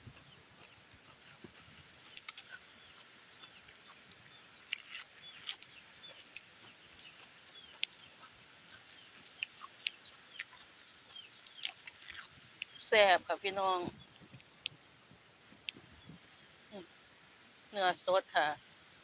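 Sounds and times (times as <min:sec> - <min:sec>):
chickens clucking: 0:00.0 - 0:16.2
small birds chirping: 0:00.0 - 0:19.0.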